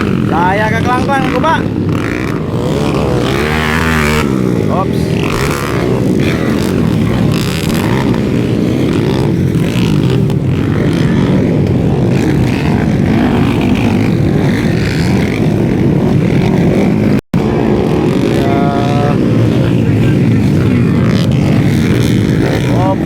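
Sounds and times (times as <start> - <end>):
motorcycle engines racing: 0.0 - 23.0.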